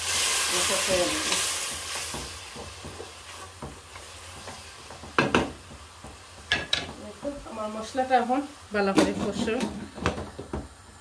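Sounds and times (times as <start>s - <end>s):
paste sizzling in a pot: 0.0s - 11.0s.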